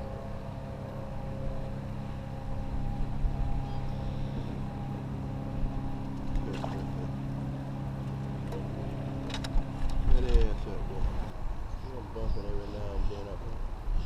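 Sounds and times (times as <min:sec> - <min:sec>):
boat motor humming: 0:00.0 - 0:13.8.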